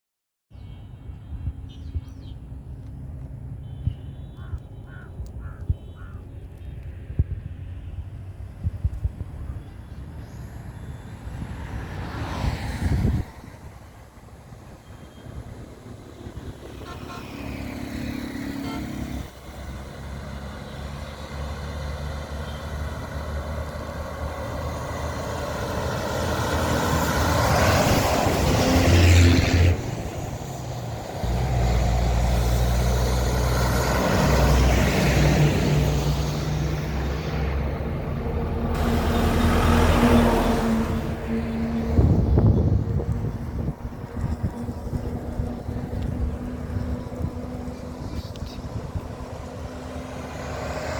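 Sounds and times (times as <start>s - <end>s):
tyre noise of passing vehicles: 0.6s - 50.9s
vehicle engines running: 1.0s - 50.9s.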